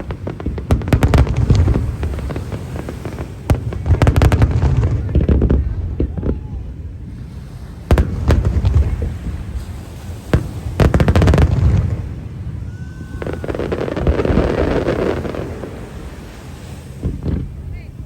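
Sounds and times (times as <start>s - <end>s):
fireworks bang: 0.0s - 18.0s
rapid fireworks cracks: 0.0s - 18.0s.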